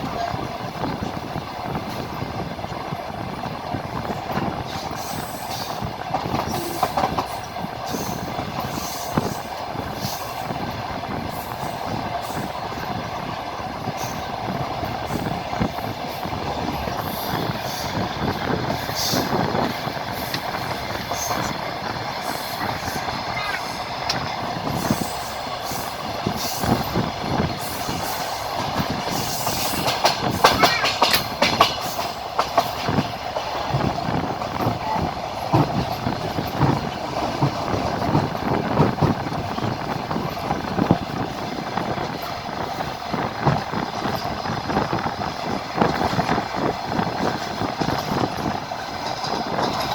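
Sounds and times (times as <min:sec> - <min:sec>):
train wheels clattering on rails: 0:00.0 - 0:49.9.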